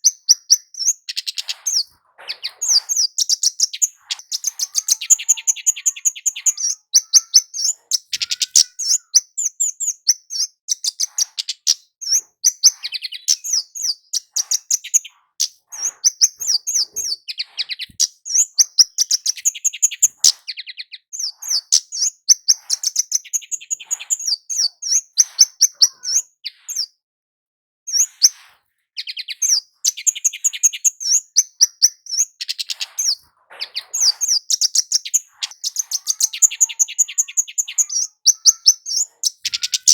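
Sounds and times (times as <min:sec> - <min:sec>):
bird chirping high-pitched: 0:00.0 - 0:27.0, 0:27.9 - 0:39.9.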